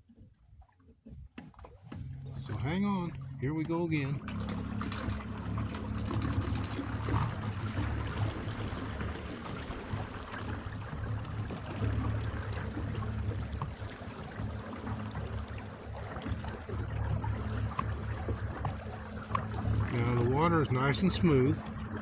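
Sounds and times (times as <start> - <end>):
water splashing along hull: 0.0 - 22.0
electric motor low rumble: 1.7 - 22.0.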